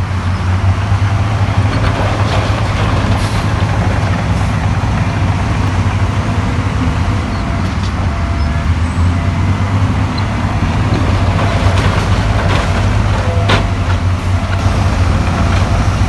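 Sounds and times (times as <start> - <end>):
heavy diesel engine humming: 0.0 - 16.0.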